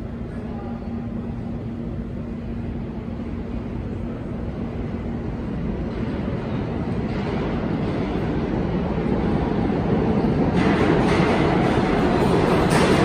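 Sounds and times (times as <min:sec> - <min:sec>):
subway train rumbling in tunnel: 0:00.0 - 0:13.0.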